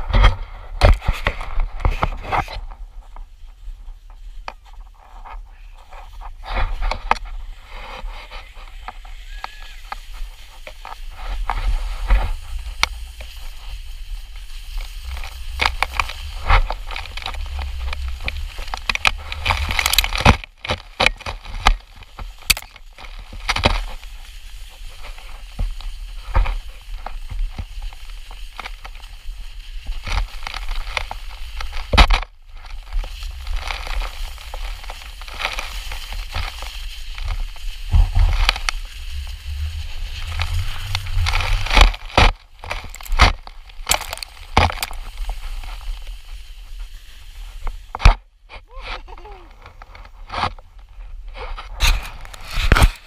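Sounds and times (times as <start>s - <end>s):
sled scraping on snow: 0.0s - 53.0s.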